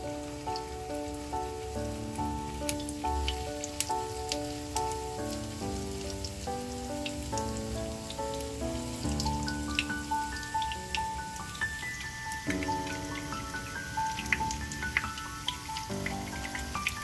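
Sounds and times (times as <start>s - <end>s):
hot oil crackling in a pan: 0.0s - 17.0s.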